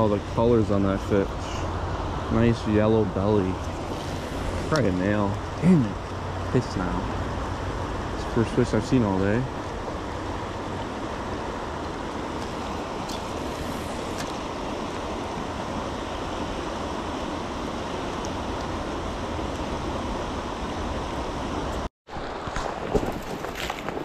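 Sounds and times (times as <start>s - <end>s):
creek water rushing: 0.0s - 23.7s.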